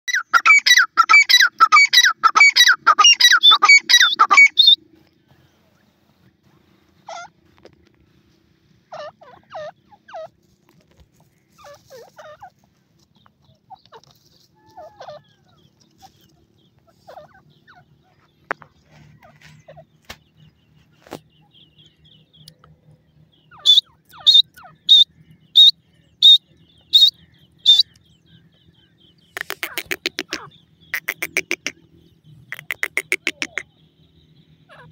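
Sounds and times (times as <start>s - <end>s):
pheasant calls: 0.1s - 5.8s, 6.6s - 7.7s, 8.8s - 22.7s, 23.3s - 34.9s.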